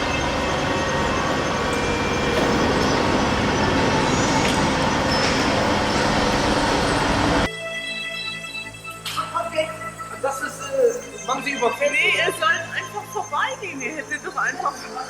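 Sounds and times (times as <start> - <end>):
train running along track: 0.0 - 7.5, 8.6 - 15.0.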